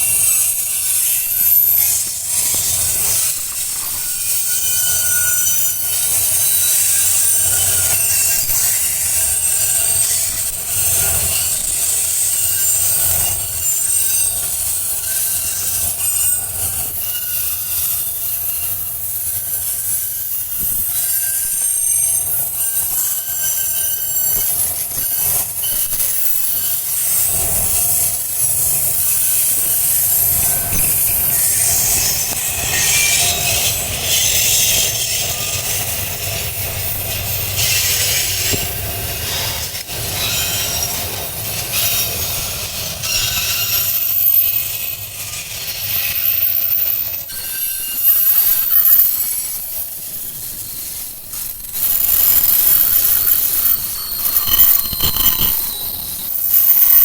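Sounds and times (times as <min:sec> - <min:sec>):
train wheels squealing: 0:00.0 - 0:57.0.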